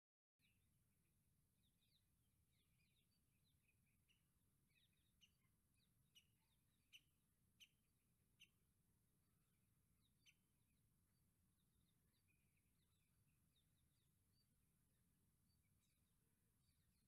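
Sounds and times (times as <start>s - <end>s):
faint birds chirping: 0.4s - 17.0s.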